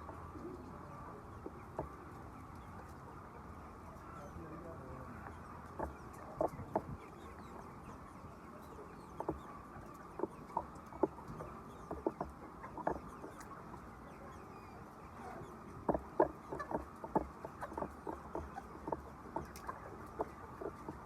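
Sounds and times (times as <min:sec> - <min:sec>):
hens clucking: 0:00.0 - 0:21.0.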